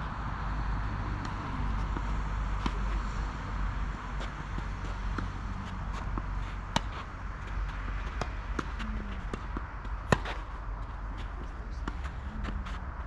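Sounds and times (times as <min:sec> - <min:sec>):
tennis racket hitting ball: 0:01.1 - 0:12.8.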